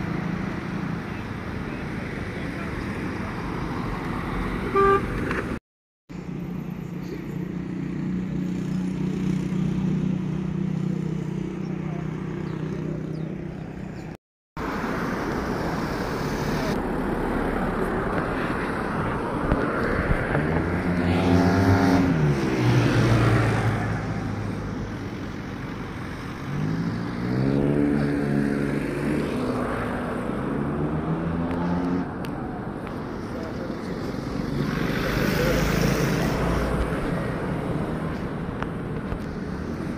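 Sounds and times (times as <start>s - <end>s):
background traffic rush: 0.0s - 39.9s
vehicles passing on a street: 0.0s - 39.9s.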